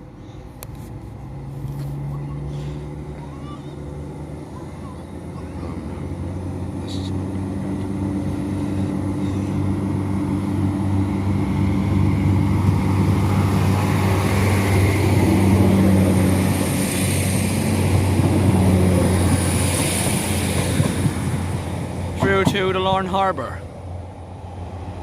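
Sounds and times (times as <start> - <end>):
diesel train engines humming: 0.0 - 25.0.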